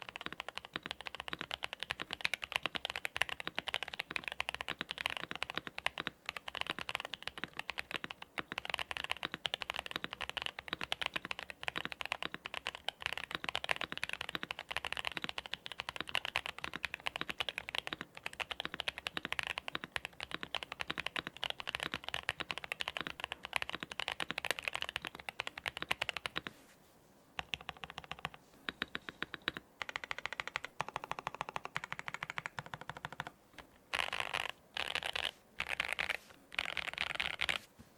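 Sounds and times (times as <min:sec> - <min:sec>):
fast typing on mechanical keyboard: 0:00.0 - 0:26.5, 0:27.4 - 0:37.6.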